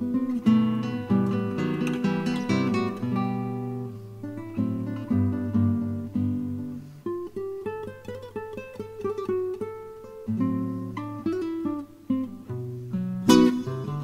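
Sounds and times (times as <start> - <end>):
solo guitar music: 0.0 - 14.0.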